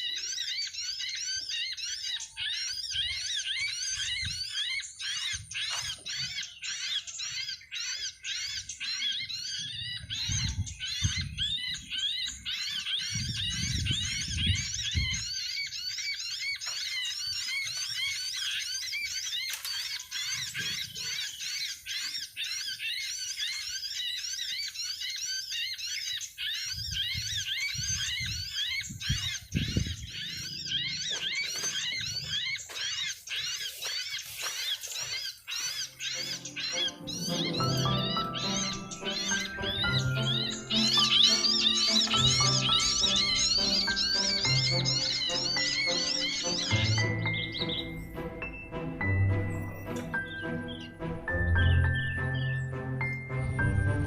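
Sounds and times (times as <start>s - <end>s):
small birds chirping rapidly: 0.0s - 54.0s.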